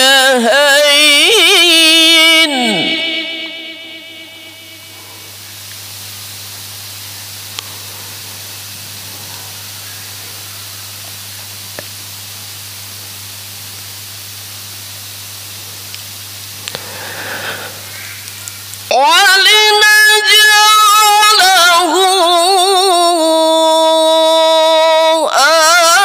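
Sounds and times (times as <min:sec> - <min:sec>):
microphone hiss and hum: 0:00.0 - 0:26.0.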